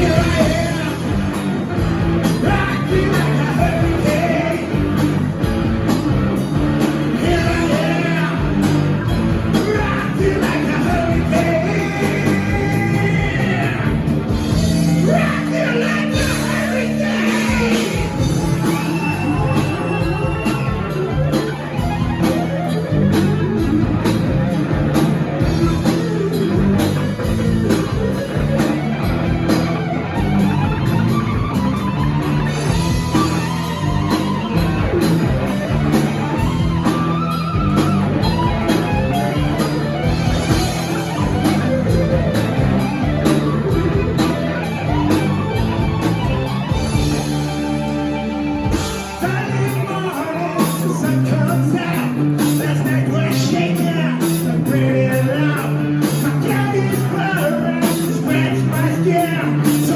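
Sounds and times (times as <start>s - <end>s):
loud hard rock music: 0.0s - 59.9s.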